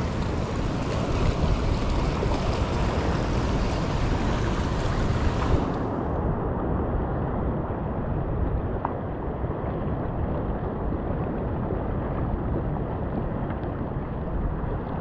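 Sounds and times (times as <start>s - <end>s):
sea waves washing on a beach: 0.0s - 15.0s
wind rumbling on microphone: 0.0s - 15.0s.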